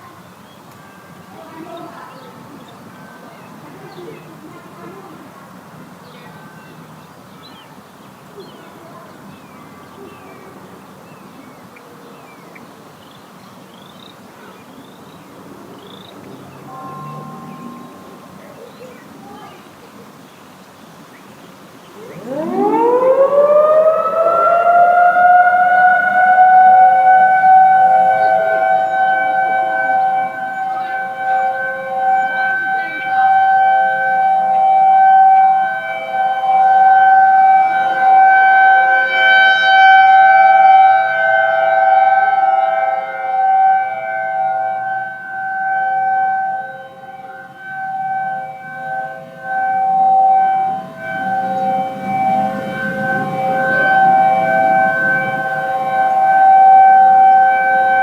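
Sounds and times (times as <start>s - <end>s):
warning sirens wailing: 0.0s - 20.2s, 21.6s - 58.0s.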